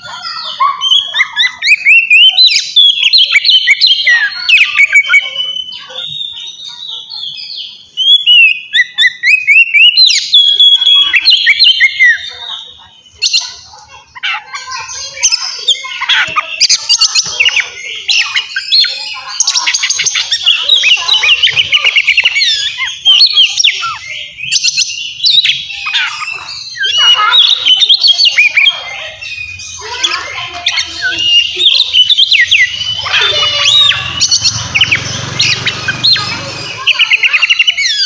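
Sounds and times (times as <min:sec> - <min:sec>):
bird singing rapid varied song: 0:00.0 - 0:38.0.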